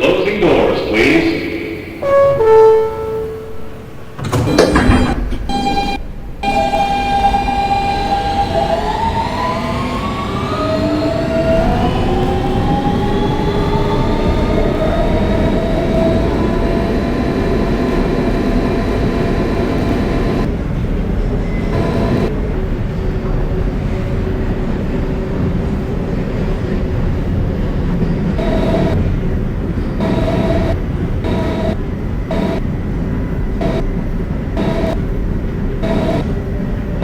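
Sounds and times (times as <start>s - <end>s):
subway train motor whining: 0.0s - 37.0s
wheels rumbling on rail: 1.9s - 37.0s.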